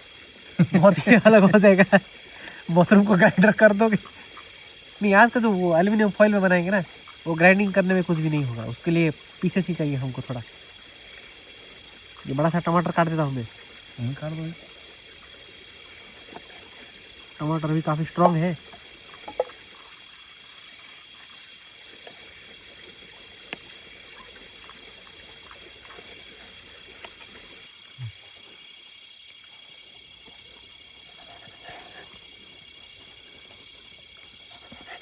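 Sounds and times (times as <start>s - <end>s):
creek water trickling: 0.0s - 35.0s
insects chorus: 0.0s - 35.0s.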